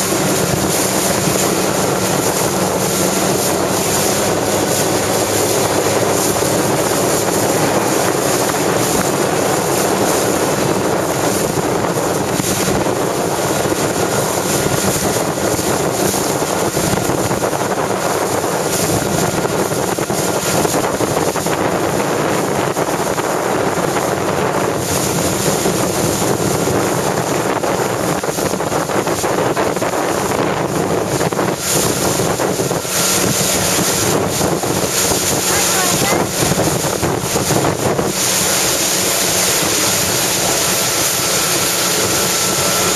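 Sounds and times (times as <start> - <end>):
choppy water: 0.0 - 42.9
wind buffeting microphone: 0.0 - 42.9.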